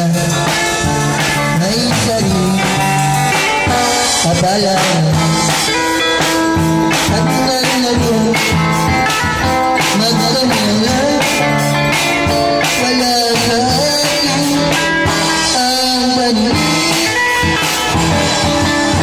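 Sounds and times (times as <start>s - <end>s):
drum kit playing a beat: 0.0s - 19.0s
man singing: 0.0s - 19.0s
rock blues song from speaker: 0.0s - 19.0s.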